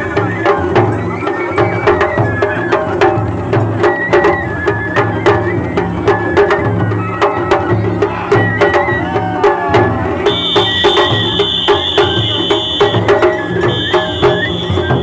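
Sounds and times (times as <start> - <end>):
drums beating steady rhythm: 0.0 - 15.0
high flute melody: 0.0 - 15.0.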